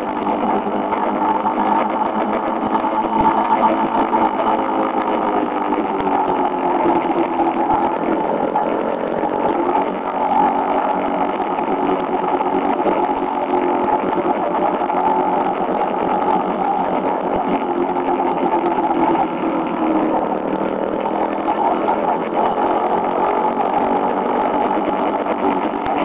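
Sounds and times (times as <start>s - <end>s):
rushing wind noise: 0.0s - 26.0s.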